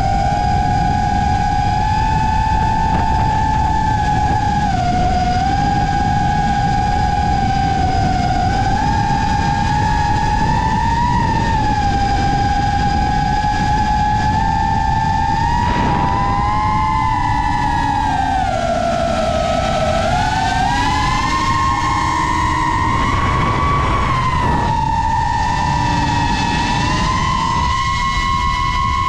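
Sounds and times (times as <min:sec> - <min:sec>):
drone motors whining: 0:00.0 - 0:29.0
wind and prop wash rumble: 0:00.0 - 0:29.0.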